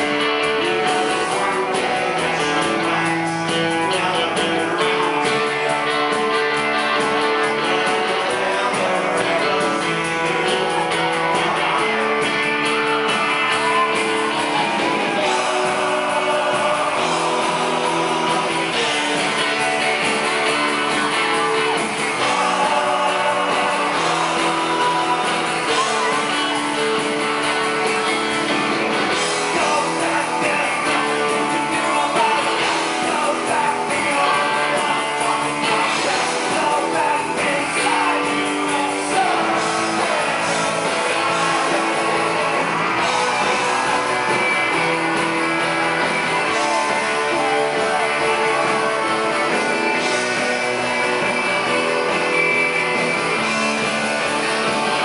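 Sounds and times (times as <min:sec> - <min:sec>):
drums: 0:00.0 - 0:55.0
electric guitar: 0:00.0 - 0:55.0
lead singer singing: 0:00.0 - 0:55.0.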